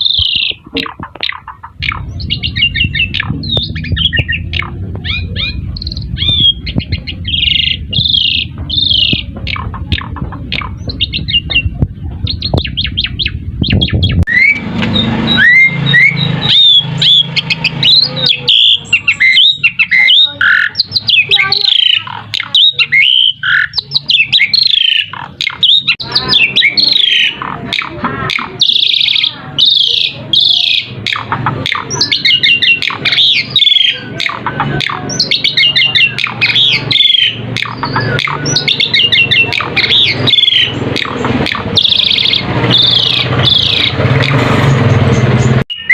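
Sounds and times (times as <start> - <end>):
starling singing: 0.0 - 45.9.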